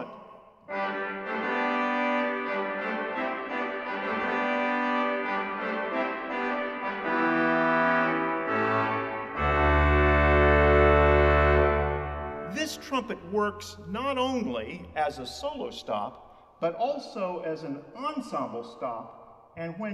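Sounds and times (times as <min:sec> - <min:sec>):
pipe organ reed melody: 0:00.0 - 0:16.0.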